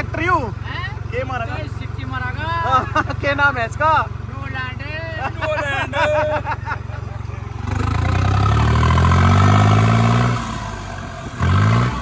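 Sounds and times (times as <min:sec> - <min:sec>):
tractor diesel engine accelerating: 0:00.0 - 0:12.0.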